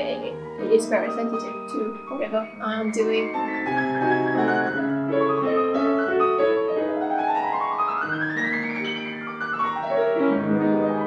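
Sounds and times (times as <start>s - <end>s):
grand piano playing: 0.0s - 11.0s.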